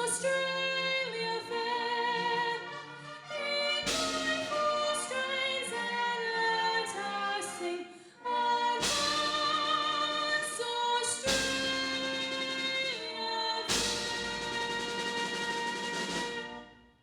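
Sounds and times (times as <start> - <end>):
group of voices singing: 1.3 - 16.6
instrumental accompaniment: 2.3 - 7.8, 8.7 - 17.0.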